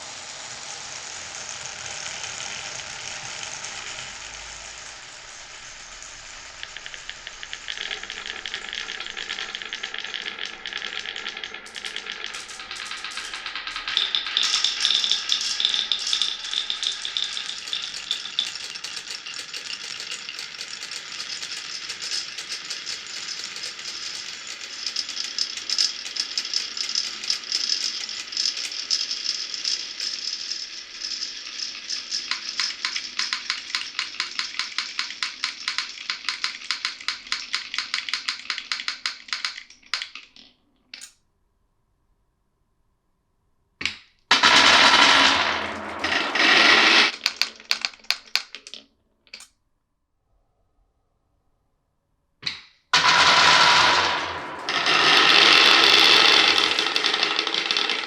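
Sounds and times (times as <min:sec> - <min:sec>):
marbles clattering on tracks: 0:00.0 - 0:41.1, 0:43.8 - 0:49.5, 0:52.4 - 0:58.0.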